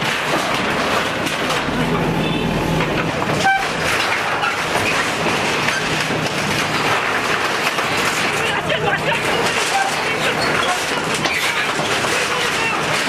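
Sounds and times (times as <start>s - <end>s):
diesel engine running: 0.0s - 13.0s
metal rattling and scraping: 0.0s - 13.0s.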